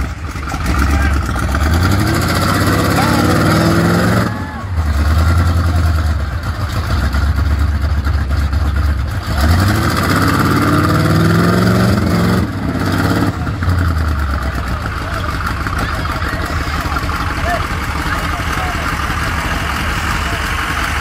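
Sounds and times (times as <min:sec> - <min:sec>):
engine droning and revving: 0:00.0 - 0:21.0.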